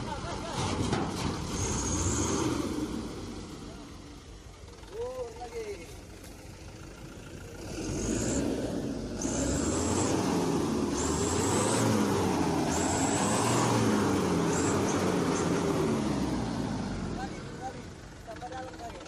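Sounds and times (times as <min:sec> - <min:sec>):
truck engine revving: 0:00.0 - 0:04.9, 0:06.1 - 0:19.0.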